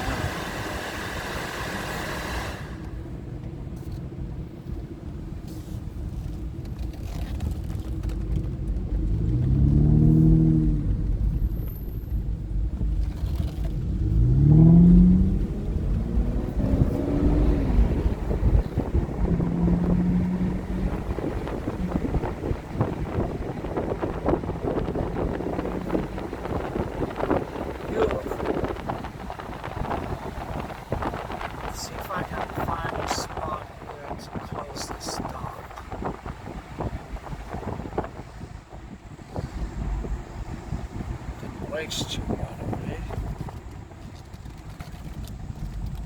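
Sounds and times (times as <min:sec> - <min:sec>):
car engine accelerating: 0:00.0 - 0:46.0
low road rumble: 0:00.0 - 0:46.0.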